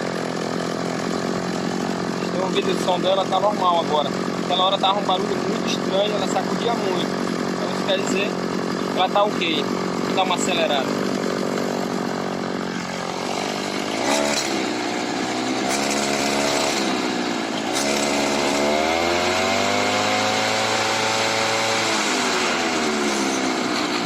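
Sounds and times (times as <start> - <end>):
brushcutter engine revving: 0.0 - 24.0.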